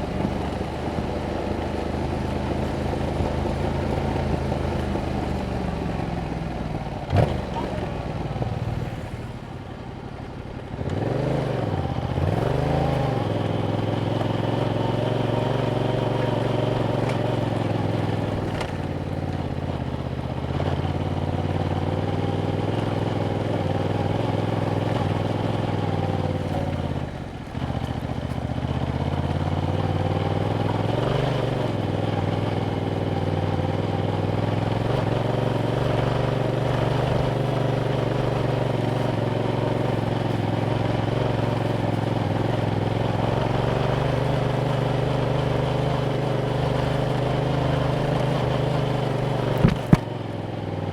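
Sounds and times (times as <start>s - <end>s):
motorcycle engine revving: 0.0s - 9.2s, 10.6s - 50.9s.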